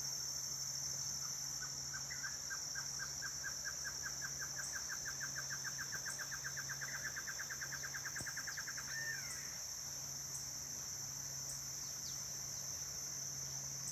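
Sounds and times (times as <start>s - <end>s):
insects chorus: 0.0s - 13.9s.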